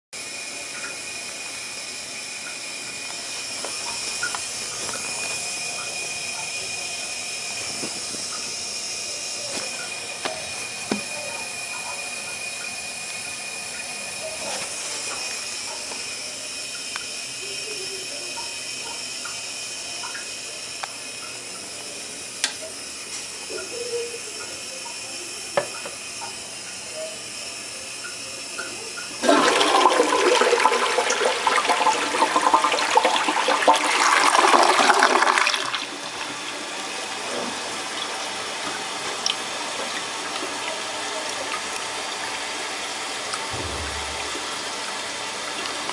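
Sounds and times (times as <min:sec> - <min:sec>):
toilet flushing: 0:00.2 - 0:45.9.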